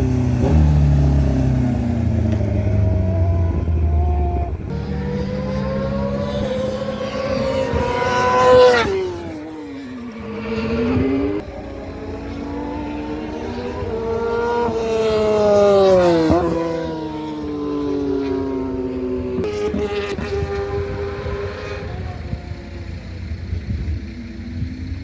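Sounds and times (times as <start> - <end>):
racing engines passing: 0.0 - 25.0.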